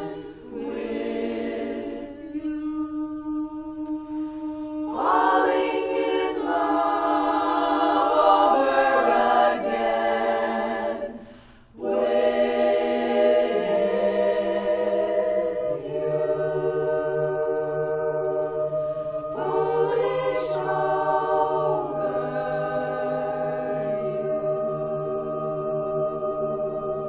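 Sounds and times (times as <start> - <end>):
women's chorus singing a cappella: 0.0 - 27.0.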